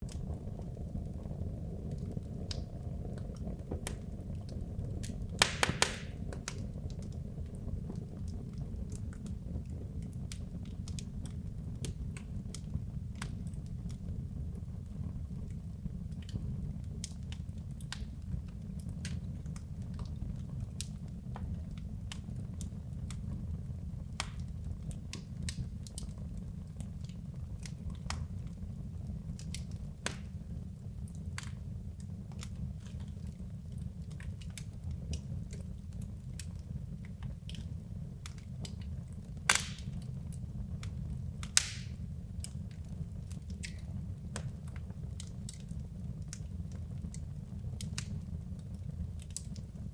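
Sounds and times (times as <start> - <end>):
fire crackling and popping: 0.0 - 49.9
low fire rumble: 0.0 - 49.9.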